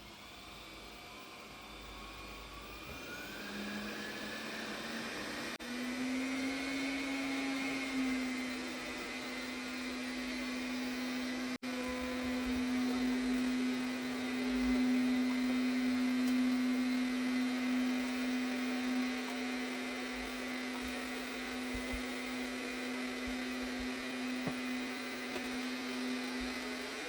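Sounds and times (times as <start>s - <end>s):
robot vacuum cleaner running: 0.0s - 27.0s.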